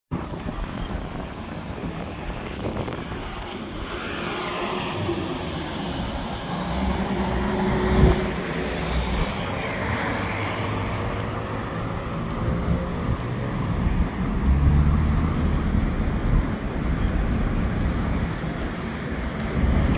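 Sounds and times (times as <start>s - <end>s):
cars passing on road: 0.1s - 19.9s.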